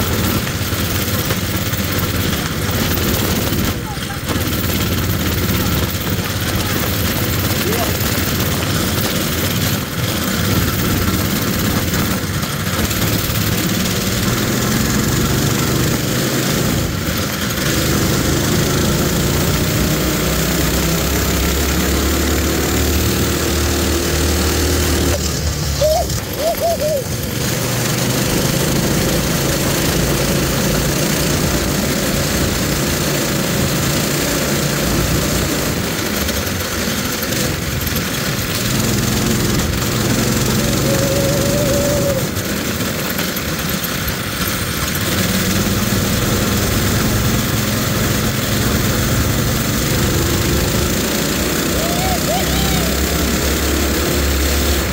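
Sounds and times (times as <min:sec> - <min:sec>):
mini bike engine revving: 0:00.0 - 0:54.9.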